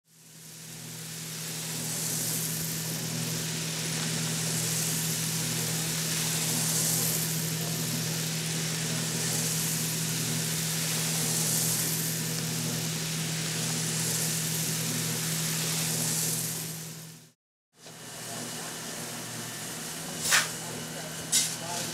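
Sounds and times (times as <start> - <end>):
coffee roaster hum: 0.1 - 21.9
tumbling beans hissing: 0.1 - 21.9.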